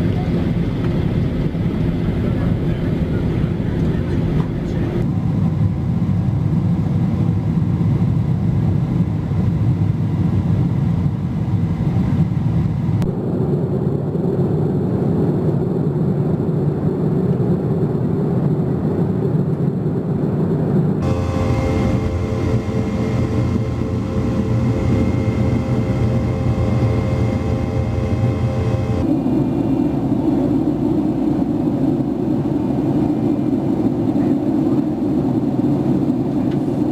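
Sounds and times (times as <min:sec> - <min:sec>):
jet engine whine: 0:00.0 - 0:36.9
jet engines and airflow rumble: 0:00.0 - 0:36.9.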